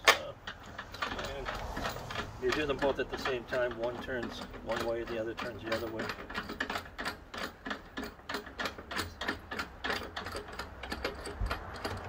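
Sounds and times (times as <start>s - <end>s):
ratchet-like clicking of handles: 0.0s - 12.0s.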